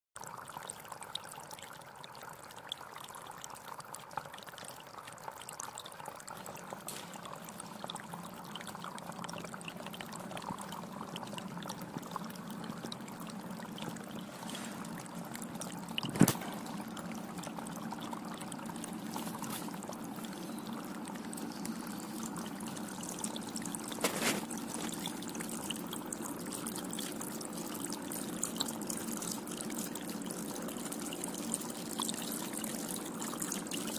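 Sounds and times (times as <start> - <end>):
fountain water trickling: 0.2 - 33.9.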